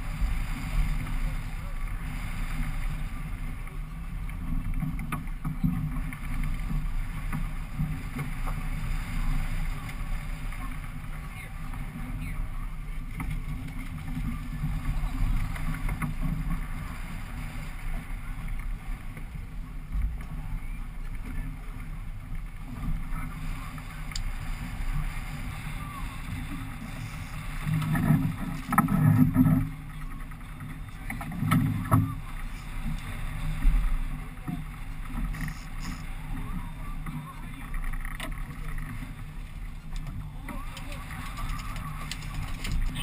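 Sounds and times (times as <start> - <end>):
boat low rumble: 0.0 - 43.0.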